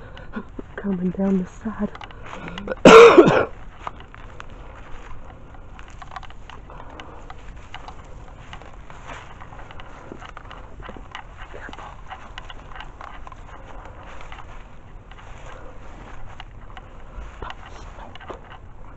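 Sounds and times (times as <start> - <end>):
twigs snapping: 0.0 - 2.8, 3.5 - 18.9
footsteps crunching dry leaves: 0.0 - 18.9.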